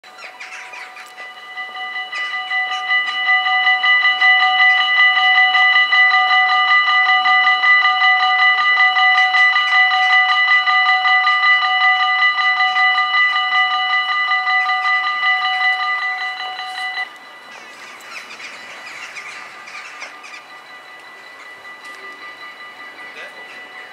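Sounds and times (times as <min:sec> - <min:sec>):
level crossing bells ringing: 0:00.0 - 0:23.9.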